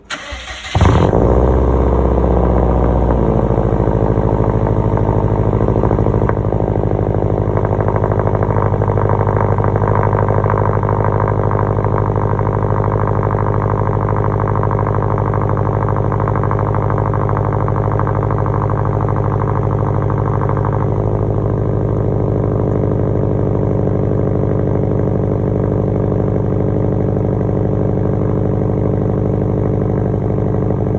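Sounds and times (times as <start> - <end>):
car engine starting and idling: 0.0 - 30.9.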